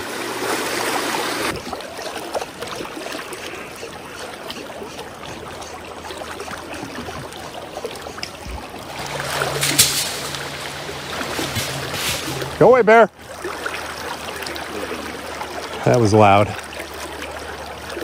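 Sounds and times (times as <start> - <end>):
creek rushing over stones: 0.0 - 3.9, 5.2 - 18.0.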